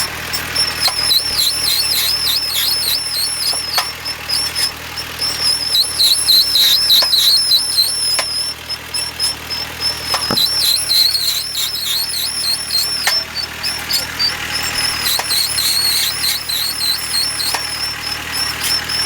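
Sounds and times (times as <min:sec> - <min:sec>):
high-pitched warbling axle squeal: 0:00.0 - 0:19.0.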